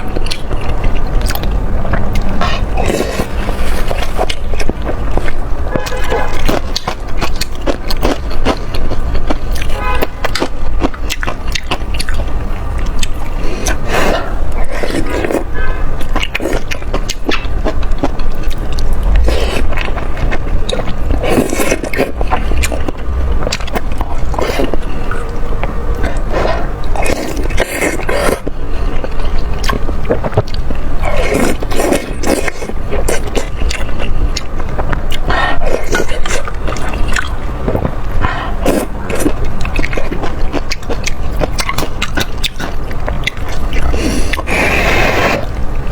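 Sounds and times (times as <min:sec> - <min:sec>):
chewing with clicks and smacks: 0:00.0 - 0:45.9.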